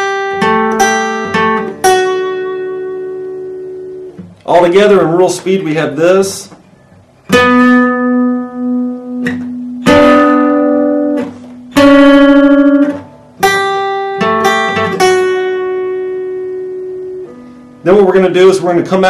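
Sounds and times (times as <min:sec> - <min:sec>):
acoustic guitar picked notes: 0:00.0 - 0:19.0.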